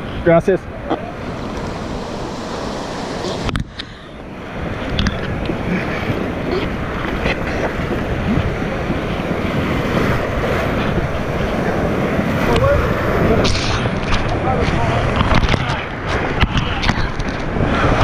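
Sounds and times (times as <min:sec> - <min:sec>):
rapids rushing and splashing: 0:00.0 - 0:18.0
wind buffeting microphone: 0:00.0 - 0:18.0.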